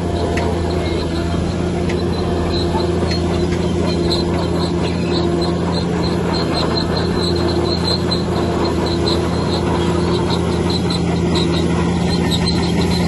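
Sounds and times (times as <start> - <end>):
diesel engine running: 0.0 - 13.0
high-pitched squeaks: 0.0 - 13.0.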